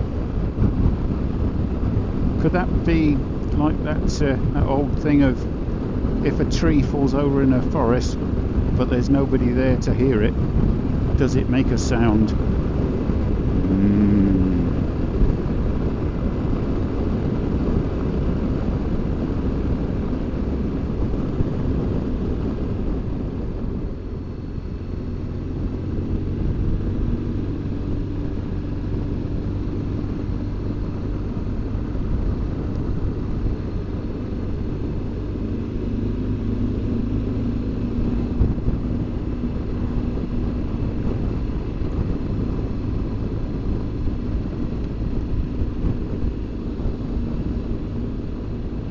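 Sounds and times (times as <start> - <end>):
motorcycle engine drone: 0.0 - 48.9
wind rush: 0.0 - 48.9.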